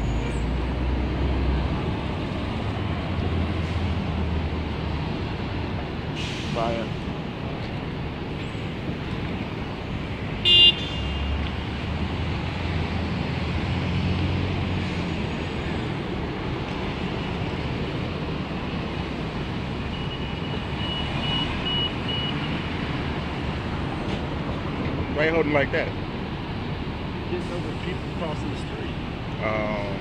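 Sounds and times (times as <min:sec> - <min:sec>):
bus engine rumbling: 0:00.0 - 0:30.0
city street traffic: 0:00.0 - 0:30.0.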